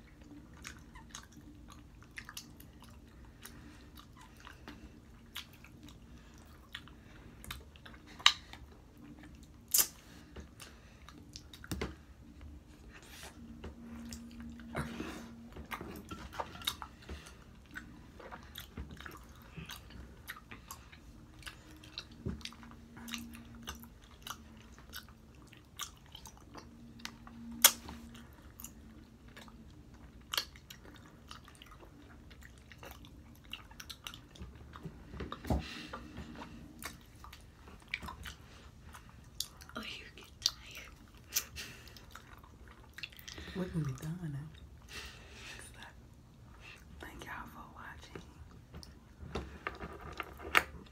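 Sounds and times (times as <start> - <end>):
faint low hum: 0.0 - 50.9
open-mouthed chewing smacks: 0.1 - 45.0.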